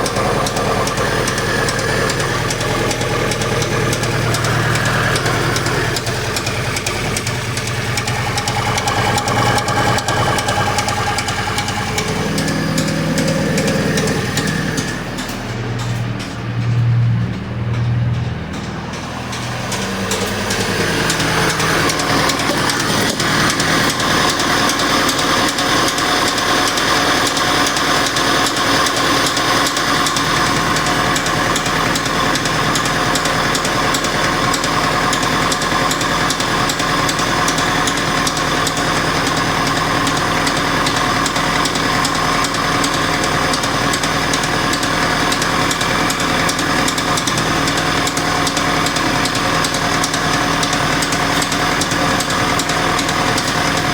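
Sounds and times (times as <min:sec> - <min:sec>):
petrol engine running: 0:00.0 - 0:53.9
rapid regular engine knock: 0:00.0 - 0:53.9.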